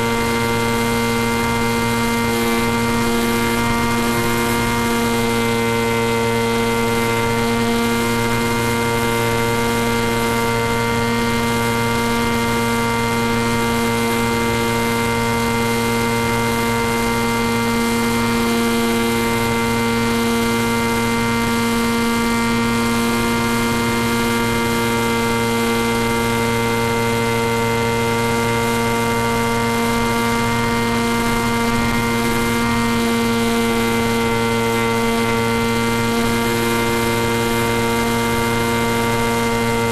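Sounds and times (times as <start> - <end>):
steady electrical buzz: 0.0 - 39.9.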